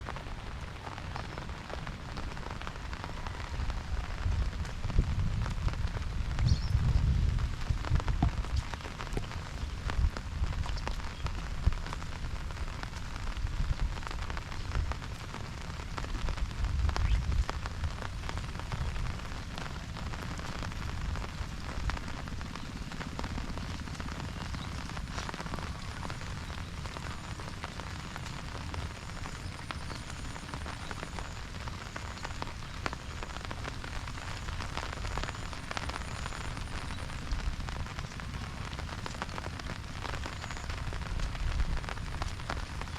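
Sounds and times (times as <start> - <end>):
rain pattering on umbrella: 0.0 - 42.9.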